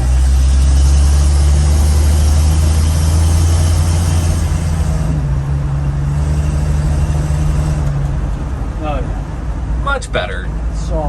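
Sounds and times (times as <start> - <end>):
car engine under hard throttle: 0.0 - 11.0.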